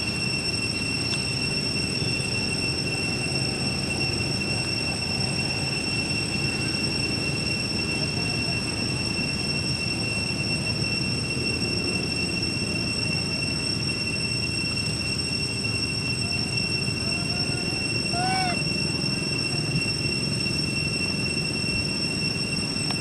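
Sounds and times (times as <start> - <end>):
high-pitched whine: 0.0 - 23.0
steady ambient rumble: 0.0 - 23.0.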